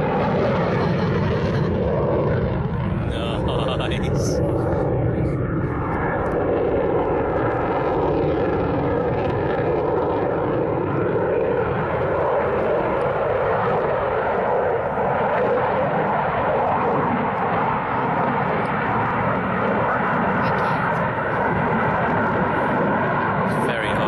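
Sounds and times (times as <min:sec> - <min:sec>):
faint jet whine: 0:00.0 - 0:24.0
jet engine noise: 0:00.0 - 0:24.0.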